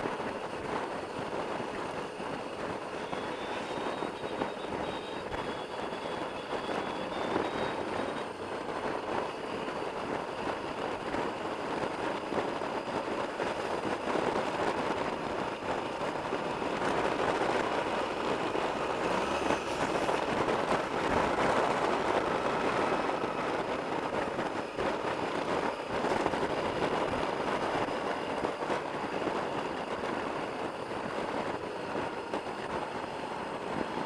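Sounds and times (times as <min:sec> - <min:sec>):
wind rush: 0:00.0 - 0:34.0.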